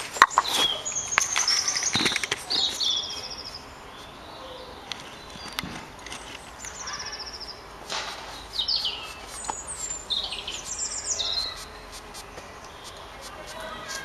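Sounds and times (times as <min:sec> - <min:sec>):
songbirds singing: 0:00.0 - 0:14.0.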